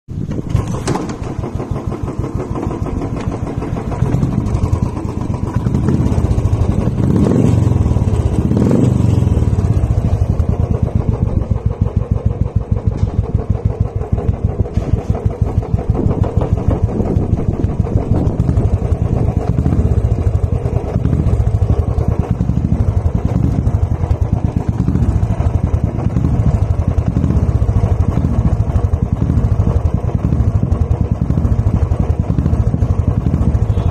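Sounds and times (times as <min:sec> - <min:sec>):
motorcycle engine idling: 0:00.1 - 0:33.9
motorcycle throttle blips: 0:00.2 - 0:33.9.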